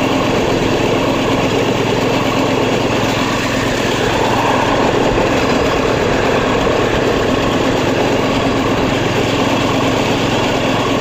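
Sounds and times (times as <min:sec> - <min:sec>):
rushing noise: 0:00.0 - 0:10.6
engine droning: 0:00.0 - 0:11.0.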